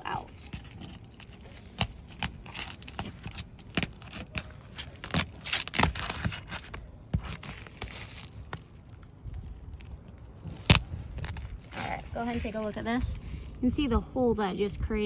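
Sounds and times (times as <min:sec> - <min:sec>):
tearing scrape: 0:00.2 - 0:13.2.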